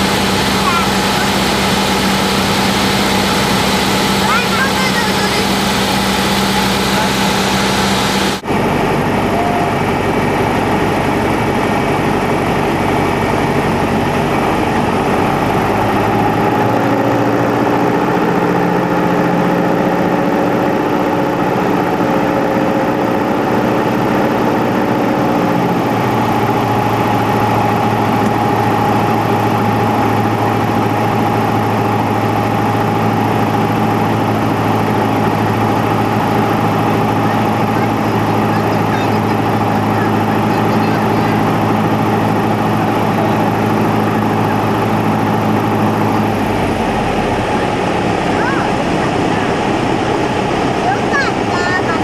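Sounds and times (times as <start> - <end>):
airliner engine hum and airflow: 0.0 - 52.0
steady cockpit tones: 0.0 - 52.0.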